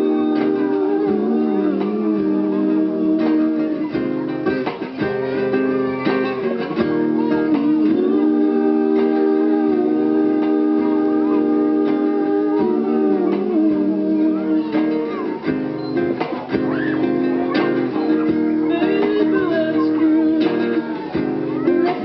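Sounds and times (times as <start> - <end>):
acoustic guitar chords: 0.0 - 22.0
person singing: 0.0 - 22.0.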